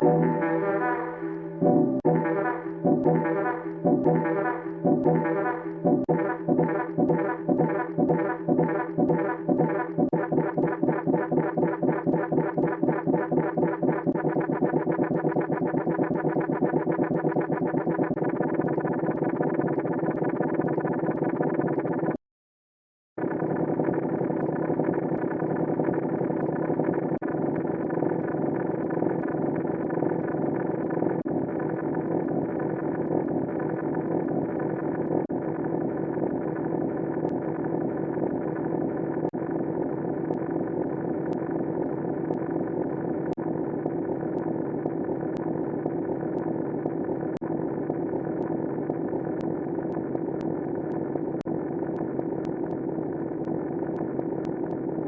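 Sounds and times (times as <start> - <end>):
dense electronic drone: 0.0 - 22.2, 23.2 - 55.0.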